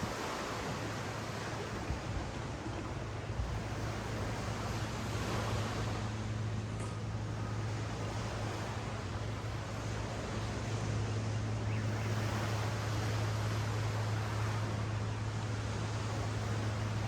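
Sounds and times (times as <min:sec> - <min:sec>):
ocean surf on beach: 0:00.0 - 0:17.0.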